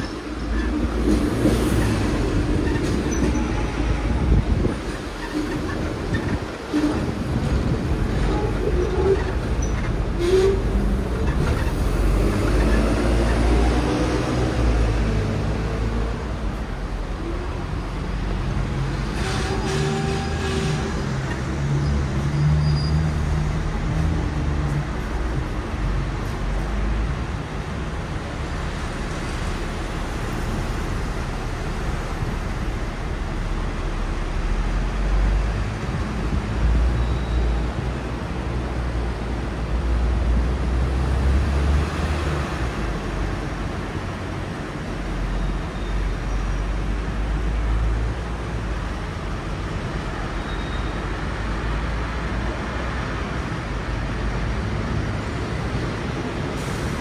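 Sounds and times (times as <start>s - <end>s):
road traffic: 0.0s - 57.0s
tram rumbling: 0.0s - 57.0s.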